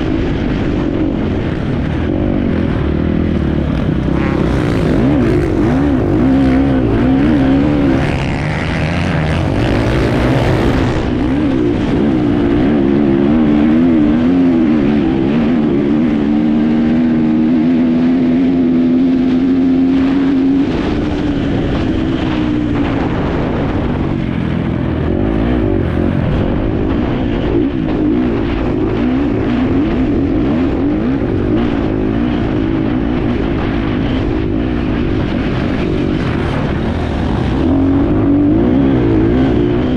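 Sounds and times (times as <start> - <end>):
dirt bike engine revving: 0.0 - 39.9
wind noise: 0.0 - 39.9.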